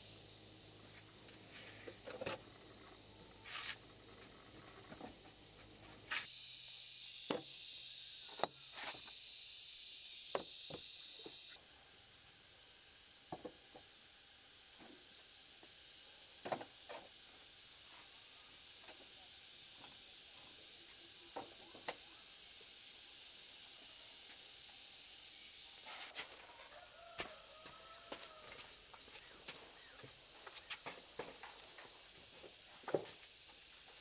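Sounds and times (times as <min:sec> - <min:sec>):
high insect chorus: 0:00.0 - 0:34.0.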